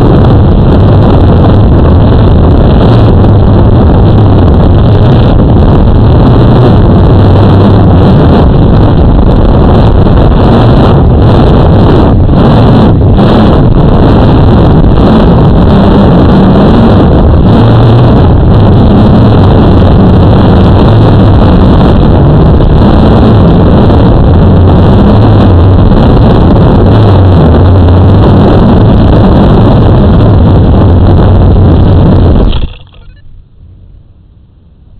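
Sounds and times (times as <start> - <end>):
model motor distorted hum: 0.0 - 34.2.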